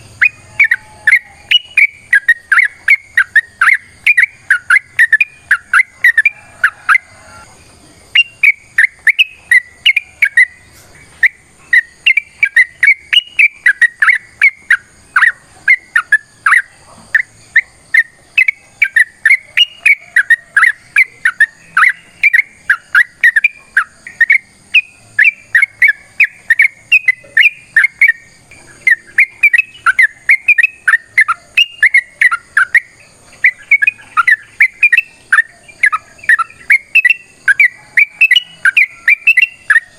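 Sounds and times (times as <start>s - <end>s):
bird whistled chattering song: 0.0s - 39.9s.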